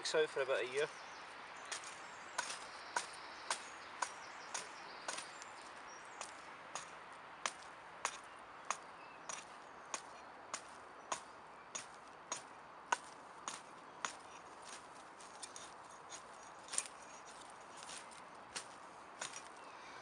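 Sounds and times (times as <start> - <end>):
axe shaving a stick: 1.6 - 19.6.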